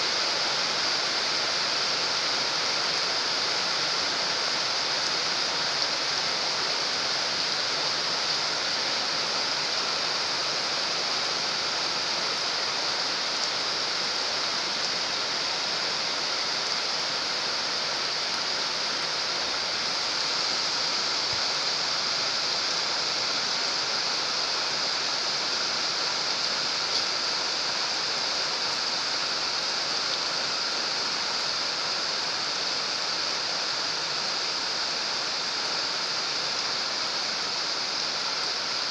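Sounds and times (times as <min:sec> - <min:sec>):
rain falling on pond water: 0:00.0 - 0:38.9.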